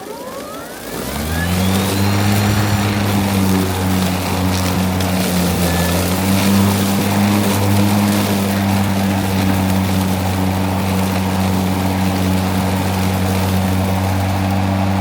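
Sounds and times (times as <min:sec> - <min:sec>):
electric lawn mower humming: 0:00.0 - 0:15.0
grass being chopped: 0:01.0 - 0:15.0.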